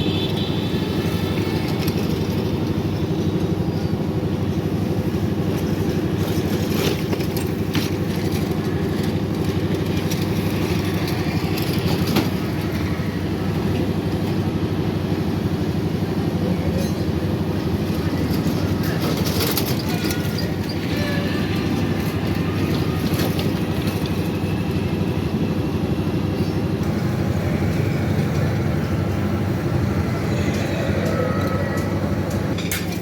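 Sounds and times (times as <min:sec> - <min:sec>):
steady motor drone: 0:00.0 - 0:33.0.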